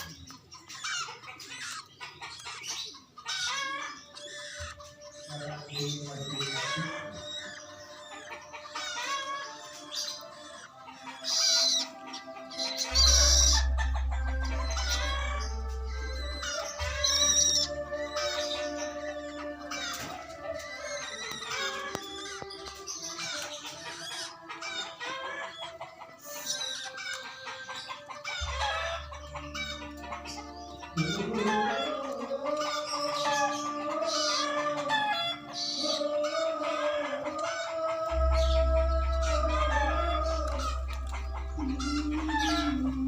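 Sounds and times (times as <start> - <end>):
bird chattering notes: 0.0 - 36.6, 37.3 - 43.0
harsh scratchy bird calls: 0.0 - 43.0.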